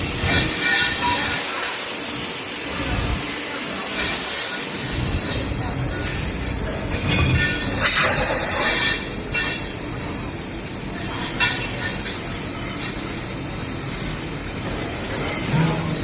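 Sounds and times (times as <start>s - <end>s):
loud hiss: 0.0s - 15.9s.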